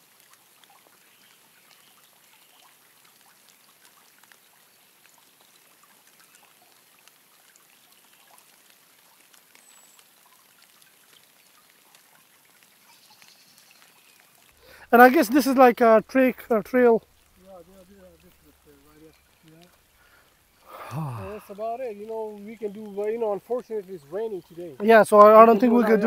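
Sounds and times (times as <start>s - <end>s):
light rain: 0.0s - 26.0s.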